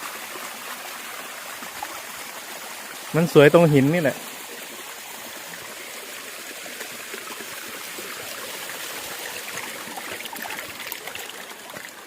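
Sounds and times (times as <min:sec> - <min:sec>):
stream water trickling over rock: 0:00.0 - 0:12.0.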